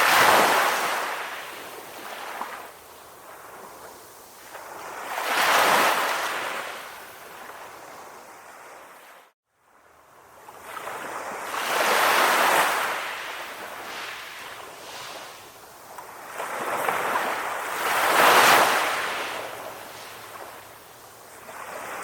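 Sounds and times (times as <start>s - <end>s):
calm sea waves washing in: 0.0s - 22.0s.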